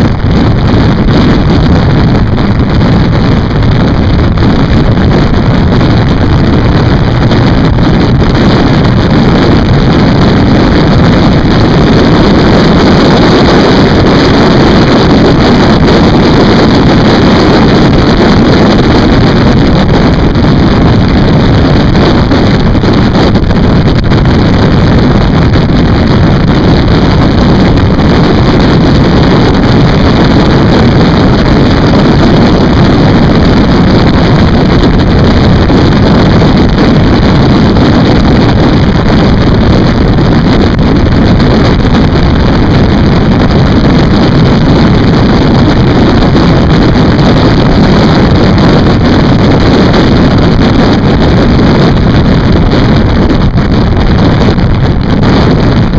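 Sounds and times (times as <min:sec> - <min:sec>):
motorcycle engine and road noise: 0:00.0 - 0:55.9
wind rush on microphone: 0:00.0 - 0:55.9.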